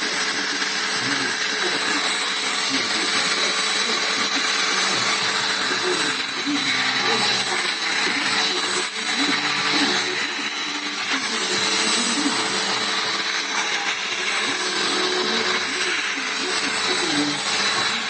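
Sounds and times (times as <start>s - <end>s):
faint voices: 0.0s - 18.0s
vacuum cleaner running: 0.0s - 18.0s.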